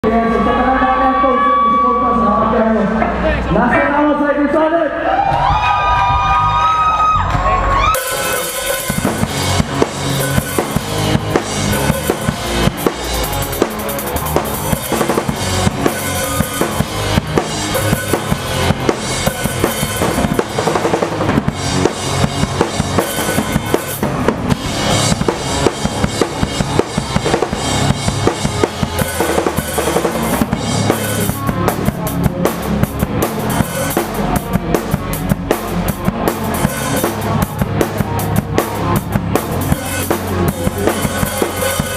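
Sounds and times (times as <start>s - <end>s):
pop punk band playing: 5.4s - 41.9s
drum kit beat: 7.3s - 41.9s.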